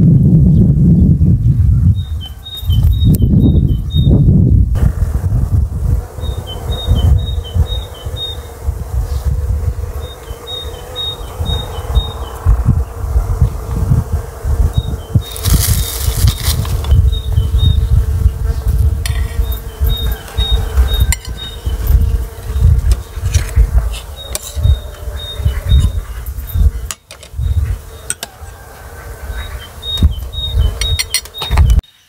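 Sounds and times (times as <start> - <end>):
flying insect buzzing: 0.7 - 31.8.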